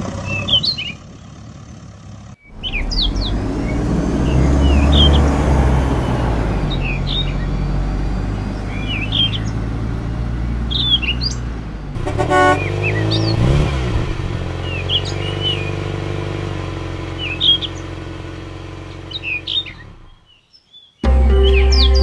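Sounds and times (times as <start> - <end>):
vehicle engine revving: 0.0 - 20.2
birds chirping: 0.0 - 22.0.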